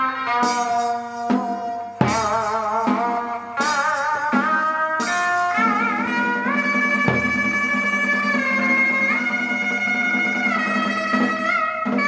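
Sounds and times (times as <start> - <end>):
drum strokes: 0.0 - 12.0.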